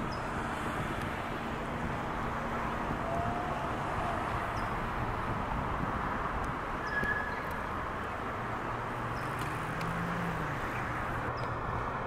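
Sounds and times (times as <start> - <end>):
outdoor traffic noise: 0.0 - 12.0.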